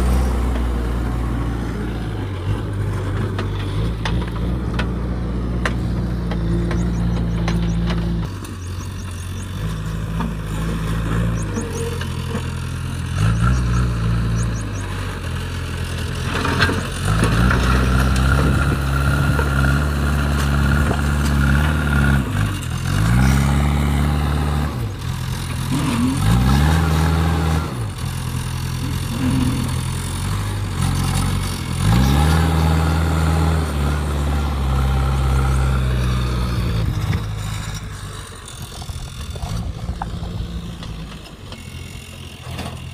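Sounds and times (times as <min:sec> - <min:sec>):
diesel engine working under load: 0:00.0 - 0:42.9.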